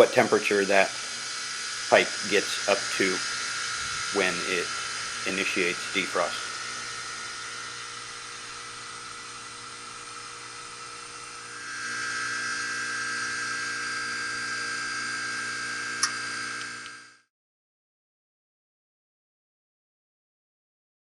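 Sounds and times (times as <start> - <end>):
heat pump high whine: 0.0 - 17.3.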